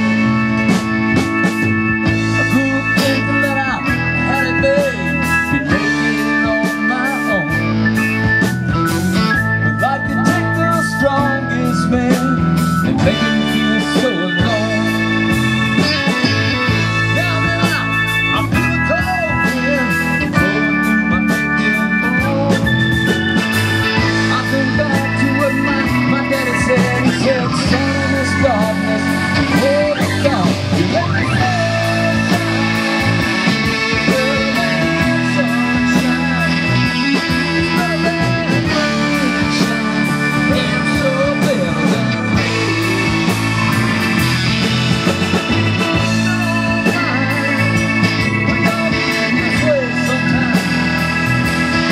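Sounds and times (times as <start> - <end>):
bass: 0.0 - 51.9
drums: 0.0 - 51.9
electric guitar lead: 0.0 - 51.9
keyboard chords: 0.0 - 51.9.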